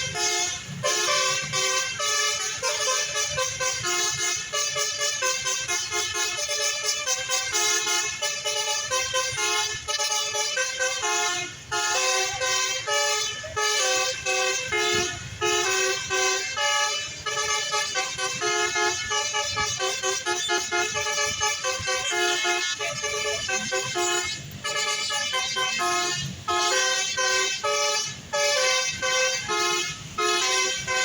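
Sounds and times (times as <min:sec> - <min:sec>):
multi-tone bus horn tune: 0:00.0 - 0:31.0.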